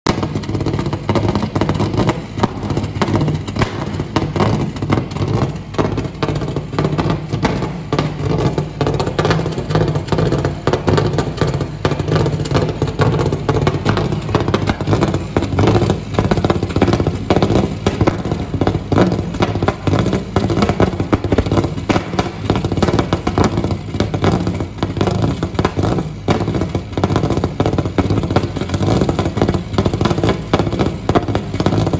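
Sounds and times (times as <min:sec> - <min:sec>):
rally car engine with crackling pops: 0:00.0 - 0:31.9.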